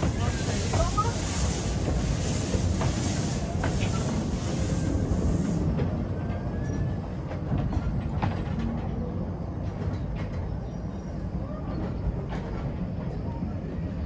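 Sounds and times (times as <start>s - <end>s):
train wagons rumbling: 0.0s - 14.0s.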